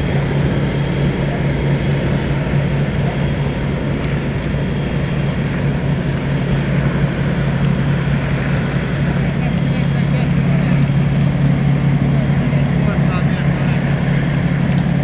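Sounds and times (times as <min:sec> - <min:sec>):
diesel engine drone: 0:00.0 - 0:15.0
water rushing: 0:00.0 - 0:15.0.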